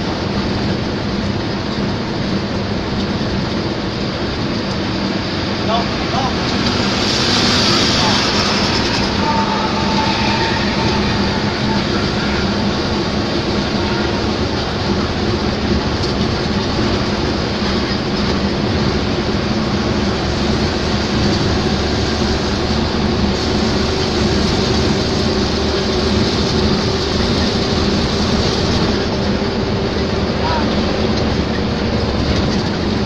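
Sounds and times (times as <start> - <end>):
vehicle engine drone and road noise: 0.0 - 33.0.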